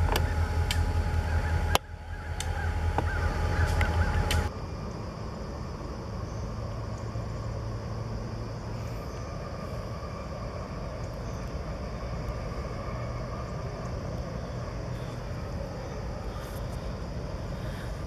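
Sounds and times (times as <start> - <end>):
diesel locomotive engines droning: 0.0 - 18.0
faint steady hum: 0.0 - 18.0.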